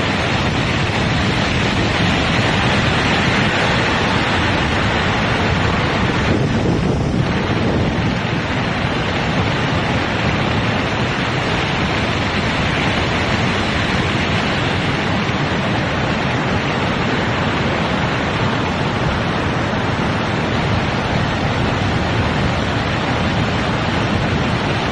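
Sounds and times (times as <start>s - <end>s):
storm wind and water rushing: 0.0s - 24.9s.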